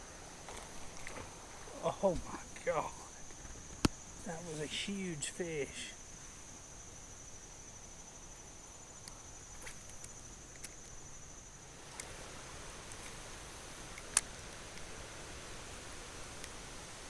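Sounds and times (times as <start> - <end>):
insect trilling: 0.0 - 15.7
faint outdoor hiss: 0.0 - 17.0.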